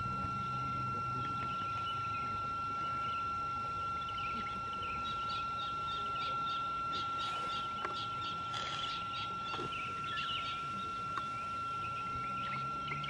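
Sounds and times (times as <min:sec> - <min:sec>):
constant high-pitched whine: 0:00.0 - 0:13.0
small birds chirping: 0:00.5 - 0:13.0.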